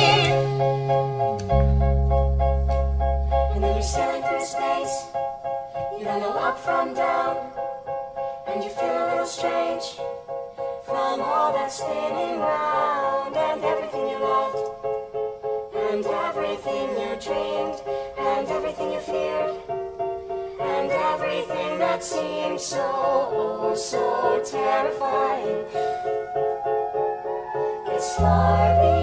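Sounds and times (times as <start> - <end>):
ensemble singing in harmony: 3.5 - 7.8, 8.4 - 29.0.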